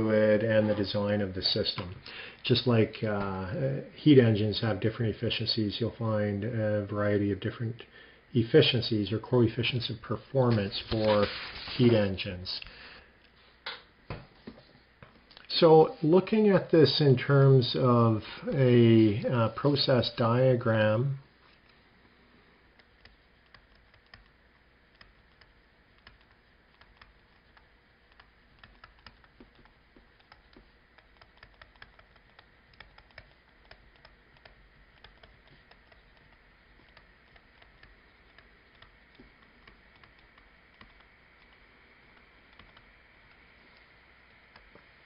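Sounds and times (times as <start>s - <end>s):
room hiss: 0.0s - 45.0s.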